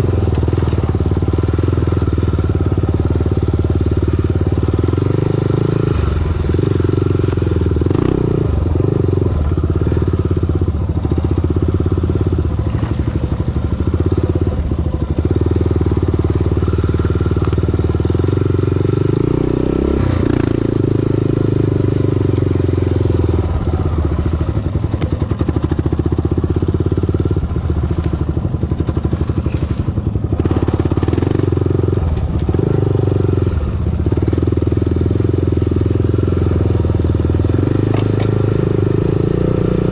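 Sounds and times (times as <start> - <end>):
atv engine at low speed: 0.0 - 39.9.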